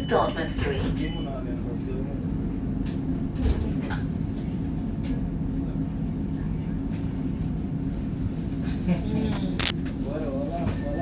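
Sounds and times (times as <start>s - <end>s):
tram interior hum: 0.0s - 11.0s.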